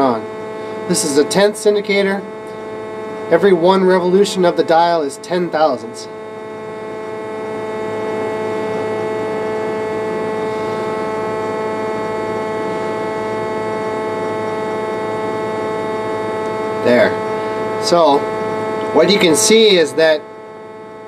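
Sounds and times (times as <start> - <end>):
electrical machine hum: 0.0 - 21.0.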